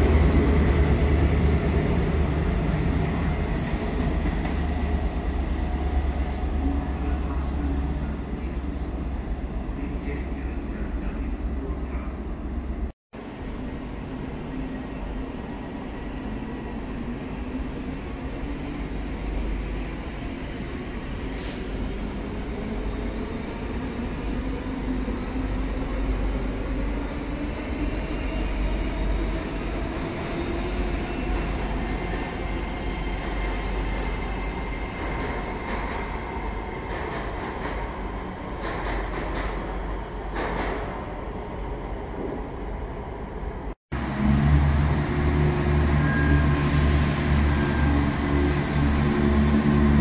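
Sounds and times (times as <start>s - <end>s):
rail noise: 0.0s - 50.0s
train rumble and drone: 0.0s - 50.0s.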